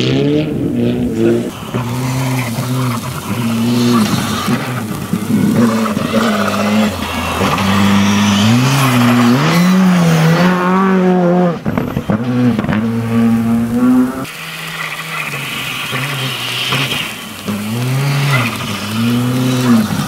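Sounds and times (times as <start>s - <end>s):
rally car engines revving: 0.0s - 20.0s.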